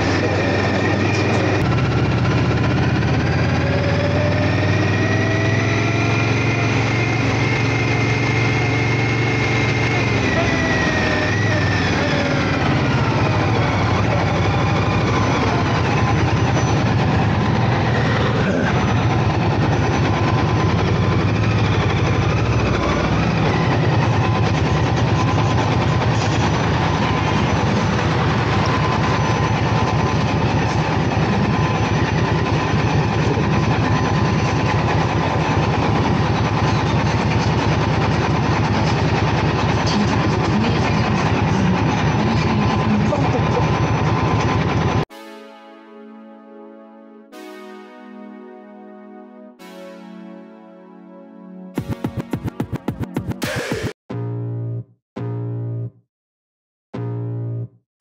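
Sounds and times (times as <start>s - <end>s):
motorcycle engine slowing and idling: 0.0s - 45.0s, 51.8s - 55.8s.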